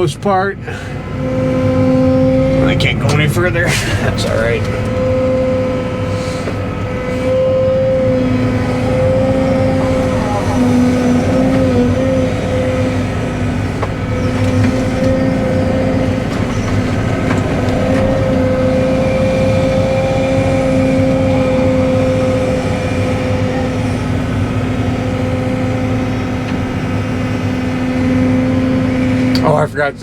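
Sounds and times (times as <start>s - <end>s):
excavator engine hum: 0.0s - 30.0s.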